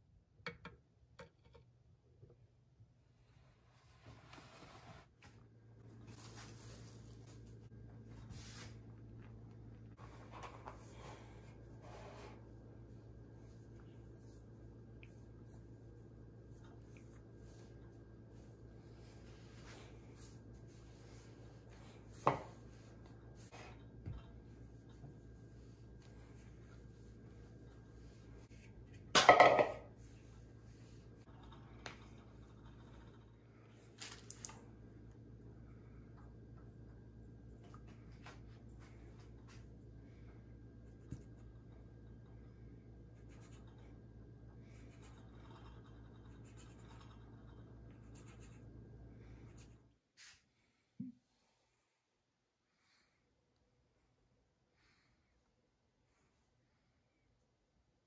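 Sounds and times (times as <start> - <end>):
steady low hum: 2.4 - 58.0.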